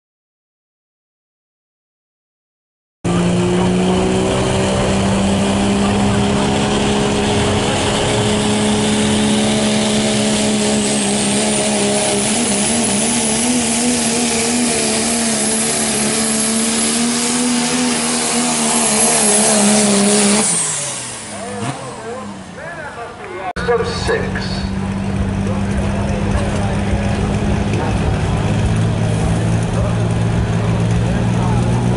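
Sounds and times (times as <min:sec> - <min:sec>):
diesel engine at full throttle: 0:03.0 - 0:31.9.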